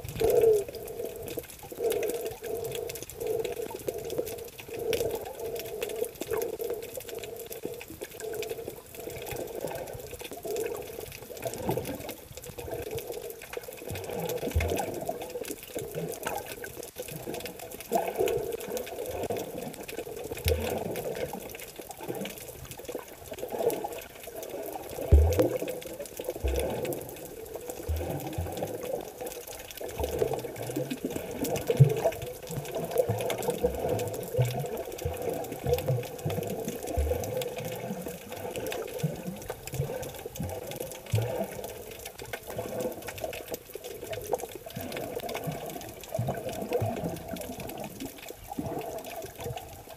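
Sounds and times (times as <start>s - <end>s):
muffled underwater water noise: 0.0s - 49.9s.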